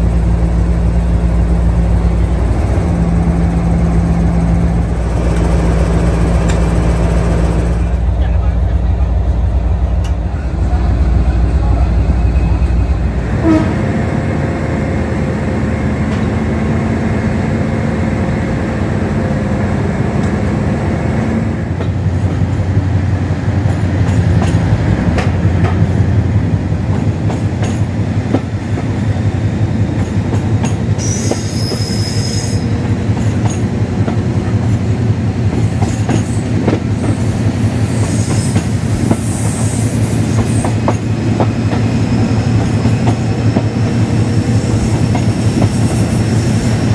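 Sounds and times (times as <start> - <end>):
diesel locomotive engine throbbing: 0.0 - 46.9.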